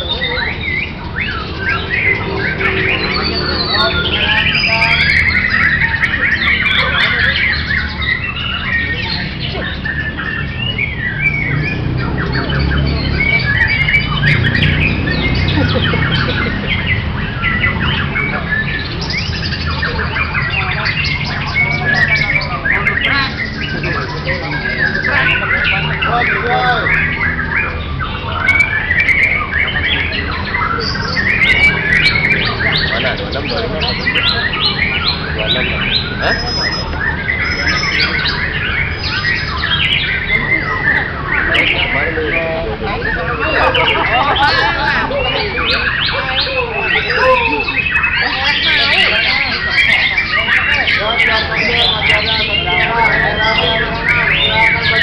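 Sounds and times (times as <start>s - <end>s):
birds singing whistles: 0.0s - 55.0s.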